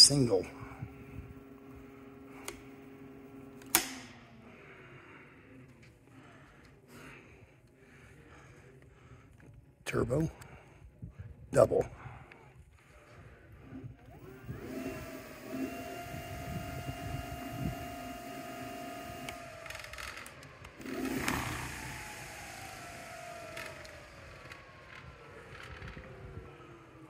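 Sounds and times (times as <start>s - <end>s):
electric scooter motors whining: 0.0s - 9.7s, 12.1s - 27.0s.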